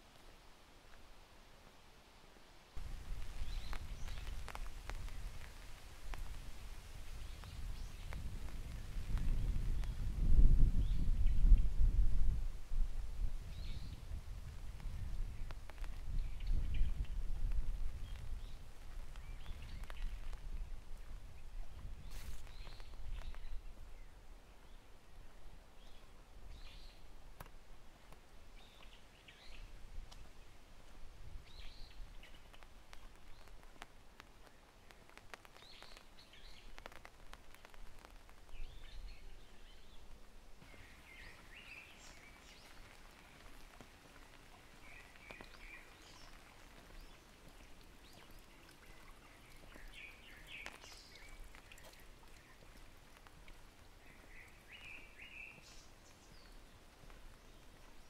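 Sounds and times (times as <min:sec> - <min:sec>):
rain dripping on leaves: 0:02.8 - 0:24.0, 0:26.5 - 0:58.0.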